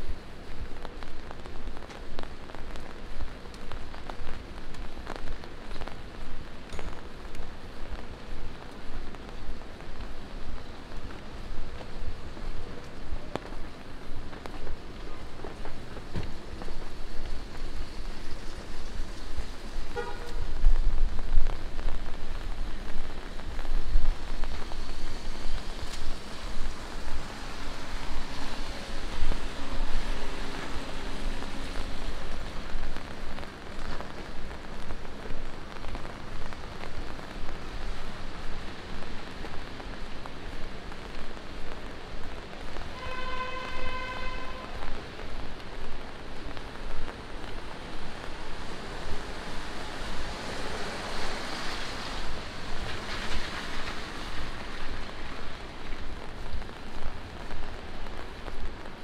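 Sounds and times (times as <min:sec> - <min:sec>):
rain on pavement: 0:00.0 - 0:59.0.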